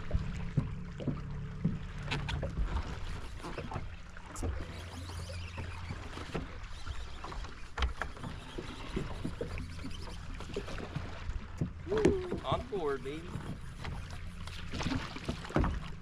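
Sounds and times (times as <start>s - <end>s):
water lapping against hull: 0.0s - 16.0s.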